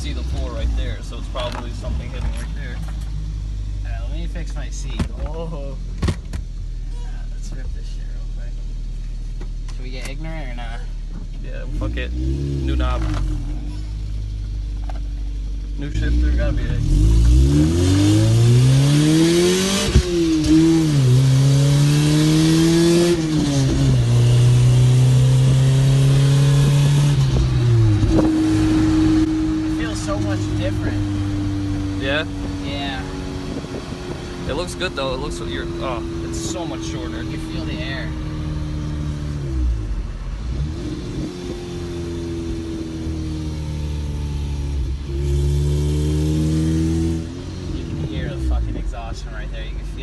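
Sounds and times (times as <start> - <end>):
car engine accelerating hard: 0.0 - 50.0.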